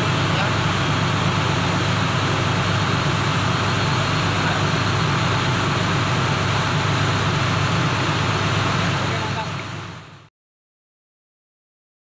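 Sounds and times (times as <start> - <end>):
ship engine droning: 0.0 - 10.3.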